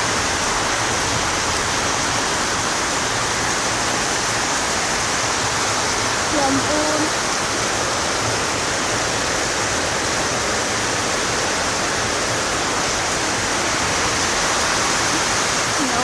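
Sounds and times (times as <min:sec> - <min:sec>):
heavy rain: 0:00.0 - 0:16.0
running water: 0:00.0 - 0:16.0.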